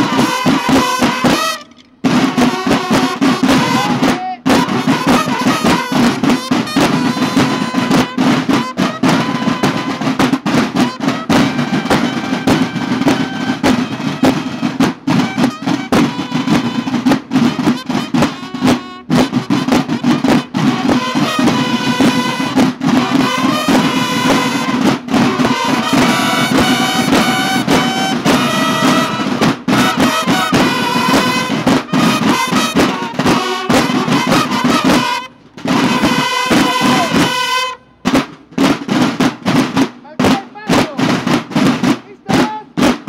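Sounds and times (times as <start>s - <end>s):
bugles playing march call: 0.0s - 43.0s
snare drums rolling: 0.0s - 43.0s.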